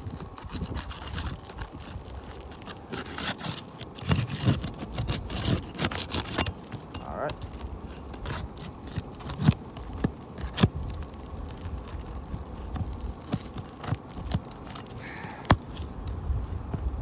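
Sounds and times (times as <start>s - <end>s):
hand tools clicking on shingles: 0.4s - 16.2s.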